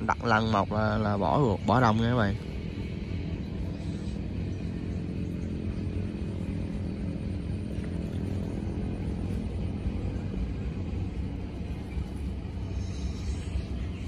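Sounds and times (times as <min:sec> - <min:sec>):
small boat engine droning: 0:00.0 - 0:14.0.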